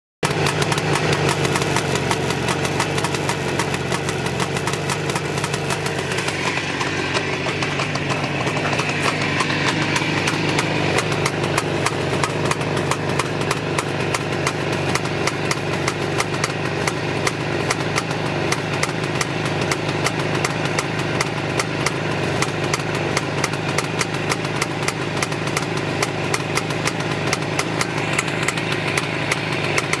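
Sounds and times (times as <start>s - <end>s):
motorcycle engine idling roughly: 0.2s - 30.0s.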